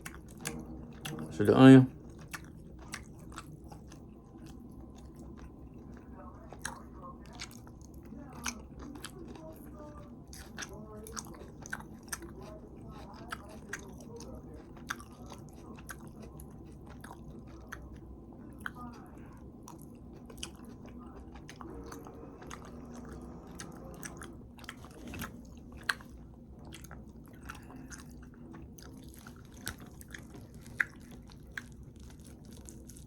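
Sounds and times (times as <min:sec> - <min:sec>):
low background hum: 0:00.0 - 0:33.0
person chewing food: 0:00.0 - 0:33.0.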